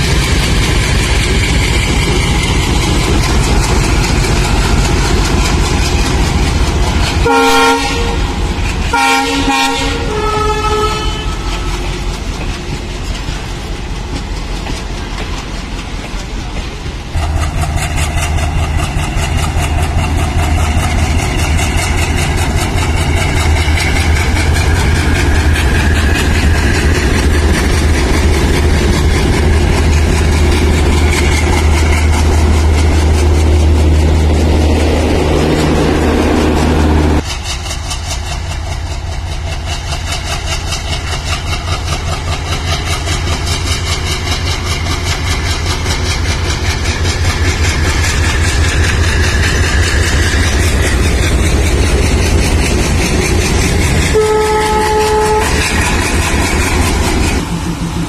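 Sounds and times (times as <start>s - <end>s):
diesel locomotive engine throbbing: 0.0s - 58.0s.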